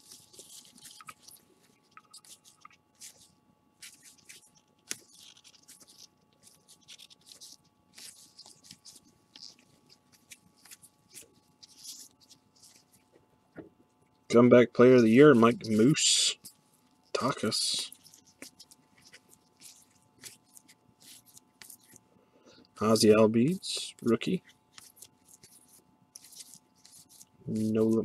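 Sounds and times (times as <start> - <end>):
trading cards flipped by hand: 0.0 - 13.2, 15.3 - 22.0, 23.7 - 28.0.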